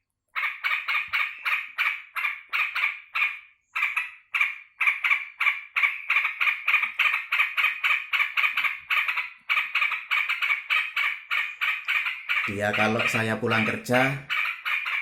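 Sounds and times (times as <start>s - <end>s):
bird chattering call: 0.4s - 15.0s.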